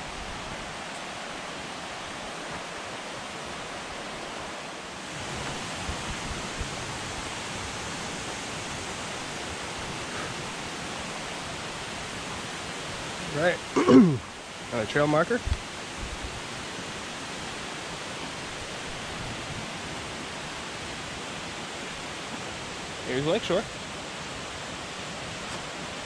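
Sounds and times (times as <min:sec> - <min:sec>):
steady rushing hiss: 0:00.0 - 0:26.0.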